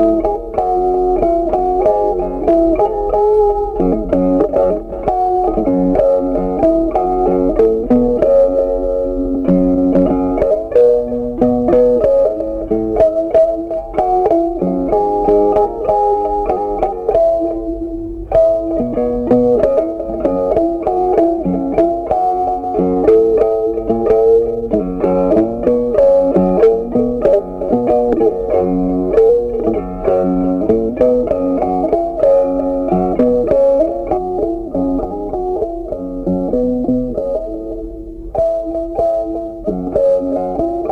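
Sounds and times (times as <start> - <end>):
plucked instrumental music: 0.0 - 40.9.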